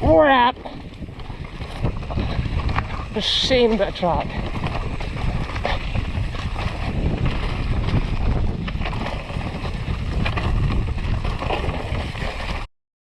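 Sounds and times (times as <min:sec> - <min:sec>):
mountain bike rumble and rattle: 0:00.0 - 0:12.7
wind buffeting microphone: 0:00.0 - 0:12.7.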